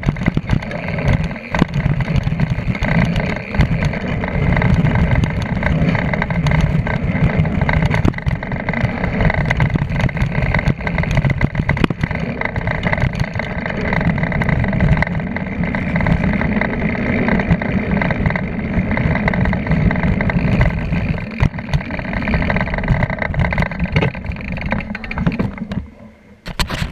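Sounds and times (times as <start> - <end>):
tyre rolling over dirt: 0.0 - 25.9
wind rushing over microphone: 0.0 - 25.9
bike rattling and knocking: 0.0 - 26.9.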